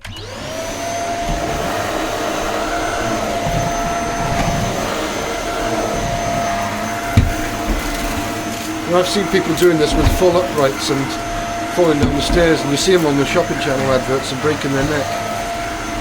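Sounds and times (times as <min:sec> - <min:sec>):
vacuum cleaner motor whining: 0:00.0 - 0:16.0.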